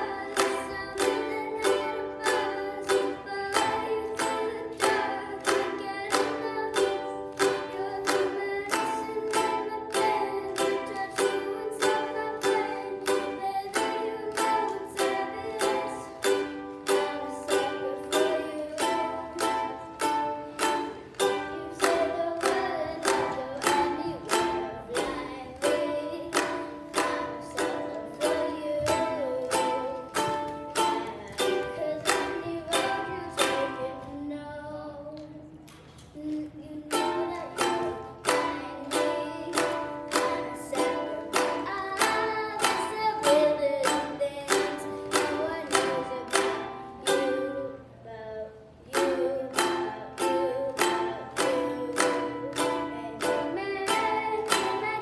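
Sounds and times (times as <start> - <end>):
ukulele strumming: 0.0 - 55.0.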